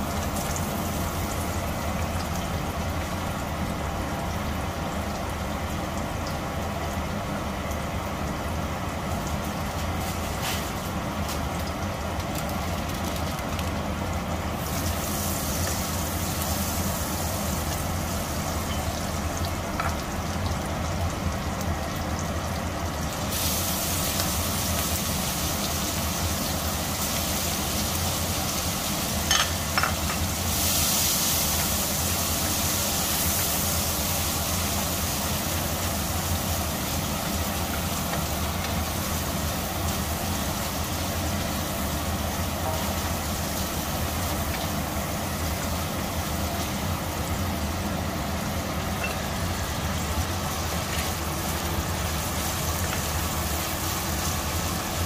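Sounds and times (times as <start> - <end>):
butter and garlic sizzling: 8.1 - 55.0.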